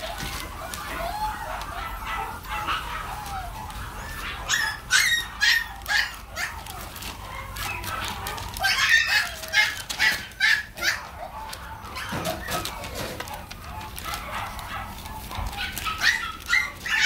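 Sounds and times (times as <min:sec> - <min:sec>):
puppies whining and yipping: 0:00.0 - 0:17.0
puppy yapping: 0:00.0 - 0:17.0.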